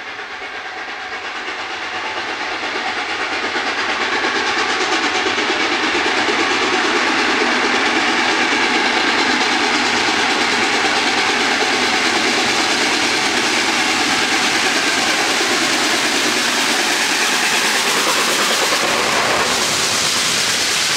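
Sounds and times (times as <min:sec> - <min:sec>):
steam locomotive passing: 0:00.0 - 0:20.9
train coaches rolling by: 0:00.0 - 0:20.9.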